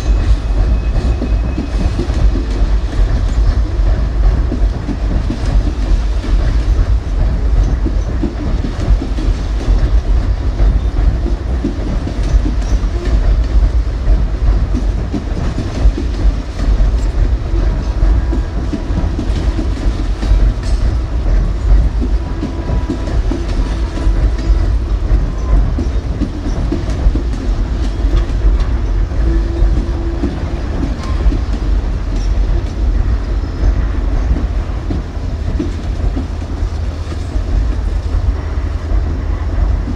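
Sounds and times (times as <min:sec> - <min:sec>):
train cars rumbling on rails: 0:00.0 - 0:39.9.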